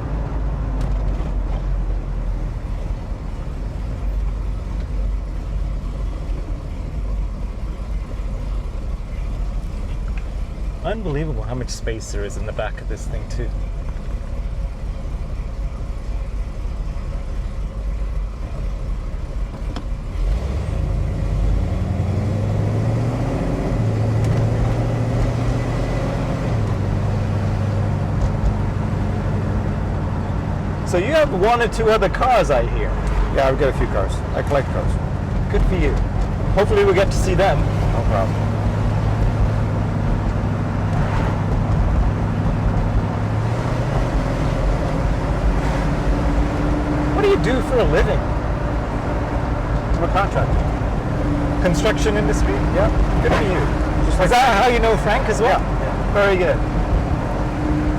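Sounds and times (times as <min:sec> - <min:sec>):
car engine rumbling: 0:00.0 - 0:57.9.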